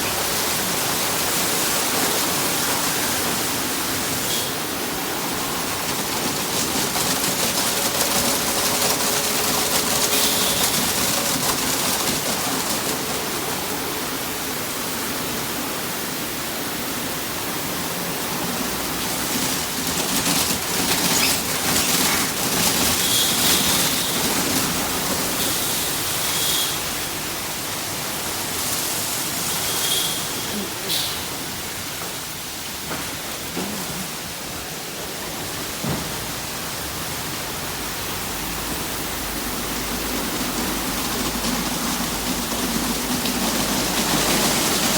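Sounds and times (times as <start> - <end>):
water spraying onto car: 0.0 - 16.6, 17.2 - 34.2, 37.3 - 44.9.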